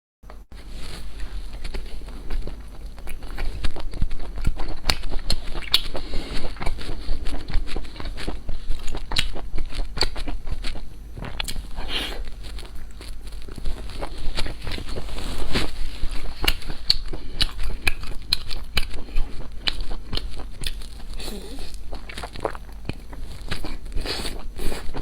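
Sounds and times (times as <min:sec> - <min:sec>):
low steady hum: 0:00.3 - 0:25.0
person chewing crunchy food: 0:00.6 - 0:25.0.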